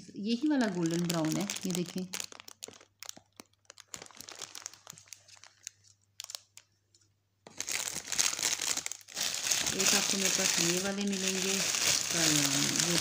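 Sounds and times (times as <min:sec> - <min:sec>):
cellophane crinkling: 0:00.3 - 0:13.0.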